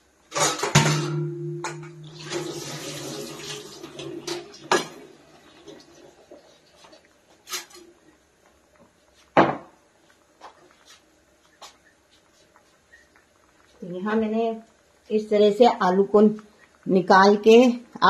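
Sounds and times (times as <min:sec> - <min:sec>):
water boiling: 0:00.0 - 0:18.0.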